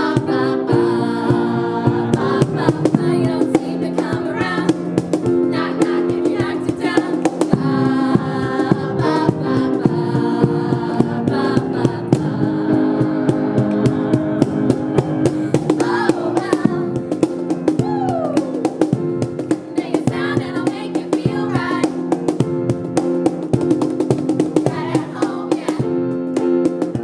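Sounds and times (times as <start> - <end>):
drums: 0.0 - 27.0.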